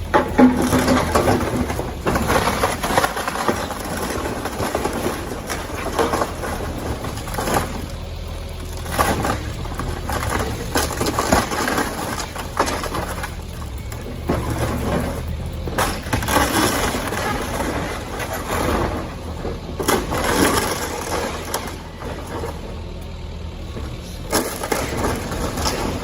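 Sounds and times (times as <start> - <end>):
debris crunching and clattering: 0.0 - 26.0
demolition machinery engine drone: 0.0 - 26.0.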